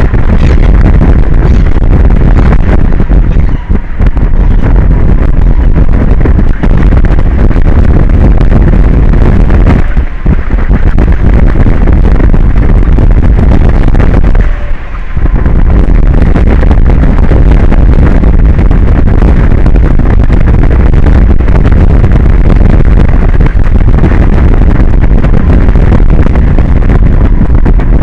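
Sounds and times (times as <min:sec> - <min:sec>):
wind blasting microphone: 0:00.0 - 0:28.0.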